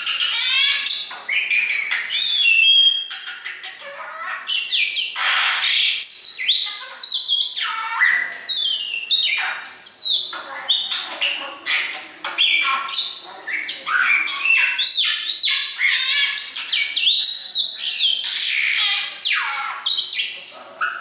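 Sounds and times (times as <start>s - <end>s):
bird squawk: 0.0s - 21.0s
pet birds whistling and chirping: 0.0s - 21.0s.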